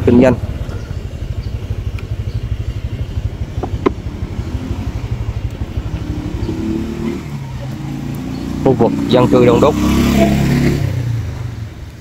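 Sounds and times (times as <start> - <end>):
motorbike engine running: 0.0 - 12.0
engine blips: 0.4 - 11.9.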